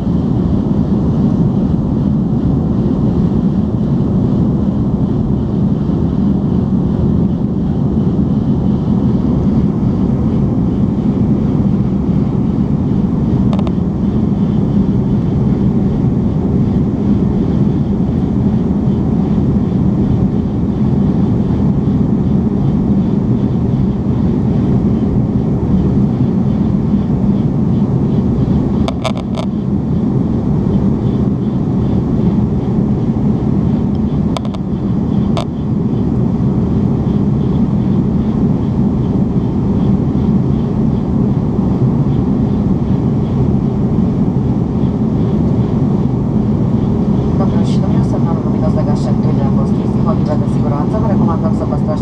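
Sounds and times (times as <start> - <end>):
airliner cabin rumble: 0.0 - 52.0.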